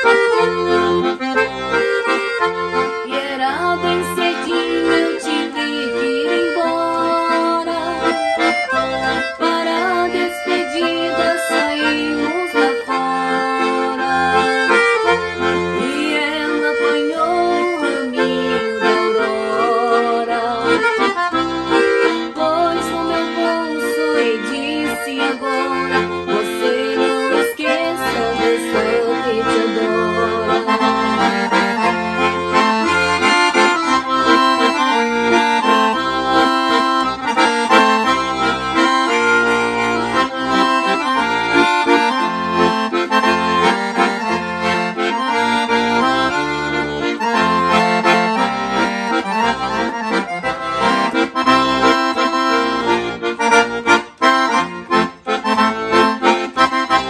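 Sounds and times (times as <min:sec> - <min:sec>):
piano accordion playing: 0:00.0 - 0:57.0.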